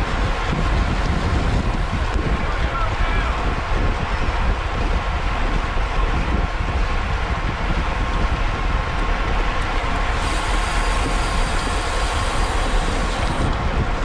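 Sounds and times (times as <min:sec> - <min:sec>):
tyres rumbling on road: 0:00.0 - 0:14.0
wind rushing over microphone: 0:00.0 - 0:14.0.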